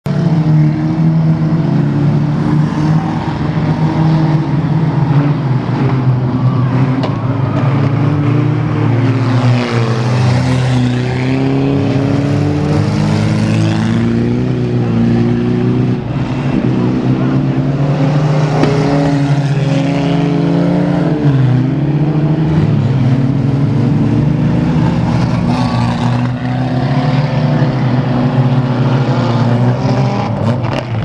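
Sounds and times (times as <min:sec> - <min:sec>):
racing car engines running hard: 0:00.1 - 0:31.0.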